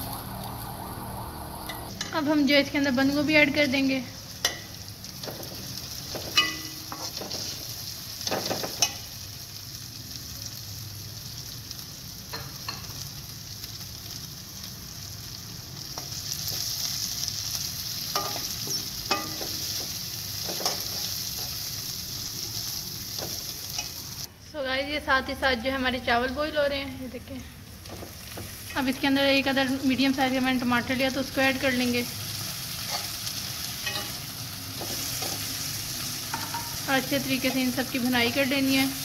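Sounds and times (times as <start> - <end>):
vegetables sizzling in oil: 0.0 - 24.3, 25.7 - 39.0.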